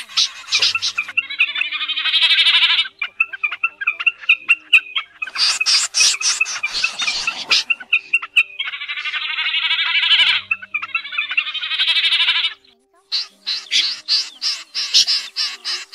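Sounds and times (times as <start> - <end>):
snipe calls: 0.0 - 15.9.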